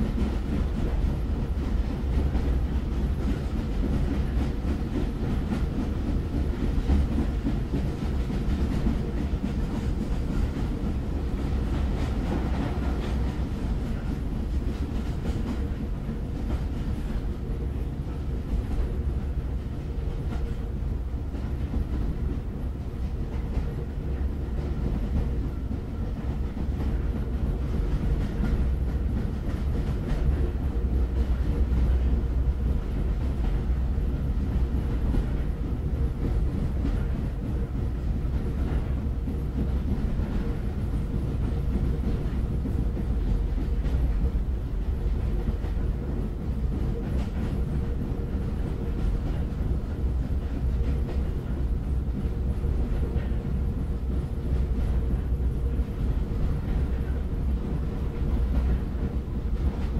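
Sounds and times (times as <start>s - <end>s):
faint clickety-clack: 0.0s - 59.9s
train rumbling on rails: 0.0s - 59.9s.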